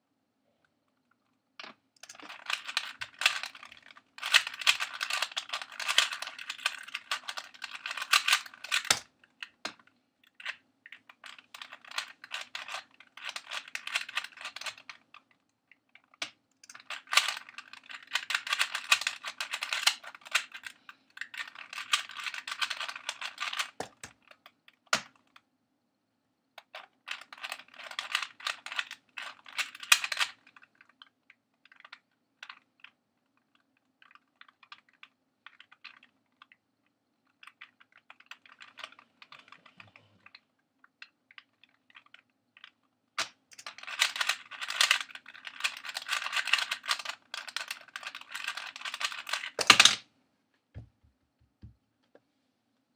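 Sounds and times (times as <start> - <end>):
speed cube pieces clicking: 2.0 - 15.3, 16.0 - 25.4, 26.6 - 31.0, 31.6 - 36.6, 37.4 - 39.8, 41.0 - 50.0.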